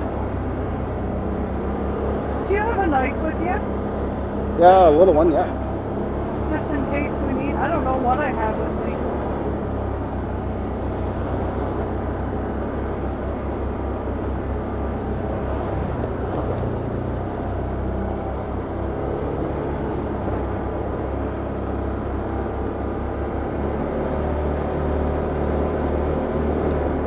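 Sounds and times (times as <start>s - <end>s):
atv engine running: 0.0s - 27.0s.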